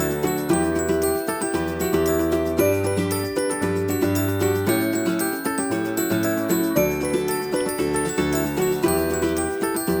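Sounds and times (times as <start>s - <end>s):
upbeat tune with bell-like notes: 0.0s - 10.0s.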